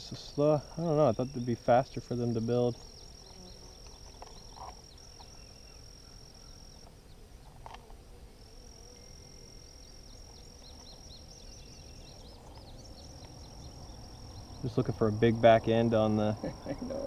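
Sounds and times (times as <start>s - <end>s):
distant birds chirping: 0.0s - 17.0s
insect trill: 0.0s - 17.0s.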